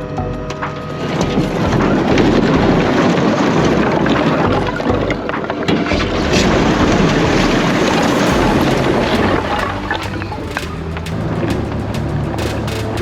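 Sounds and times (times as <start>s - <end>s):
heavy farm machine engine: 0.0s - 13.0s.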